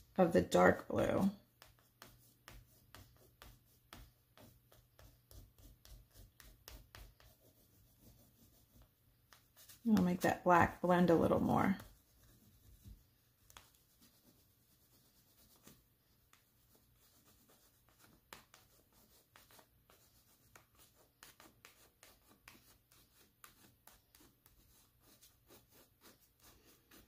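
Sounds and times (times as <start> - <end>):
oil pastel scratching paper: 0.0 - 27.0.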